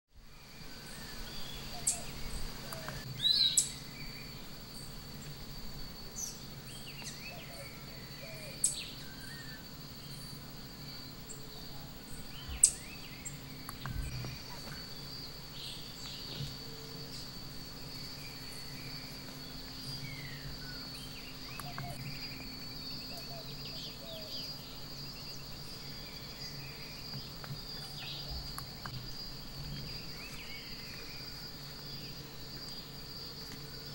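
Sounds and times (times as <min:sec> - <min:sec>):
insects trilling: 0:00.2 - 0:33.9
bird chirps: 0:00.6 - 0:05.0, 0:06.1 - 0:17.3, 0:17.9 - 0:32.9.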